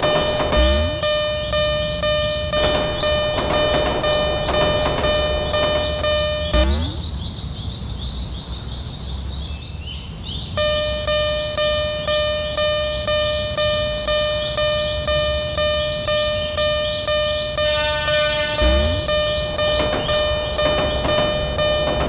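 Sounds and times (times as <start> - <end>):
level crossing warning bell: 0.0 - 7.0, 10.5 - 22.0
high rising chirps: 0.0 - 7.9, 10.6 - 21.9.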